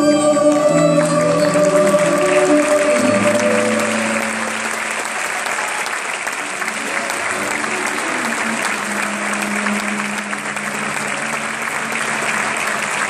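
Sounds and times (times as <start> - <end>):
audience applauding: 0.4 - 13.0.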